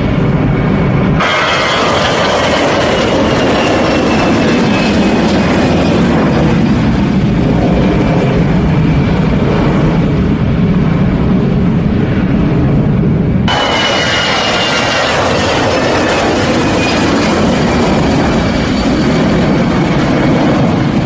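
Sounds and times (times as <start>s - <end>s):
airplane engines rumbling: 0.0s - 21.0s.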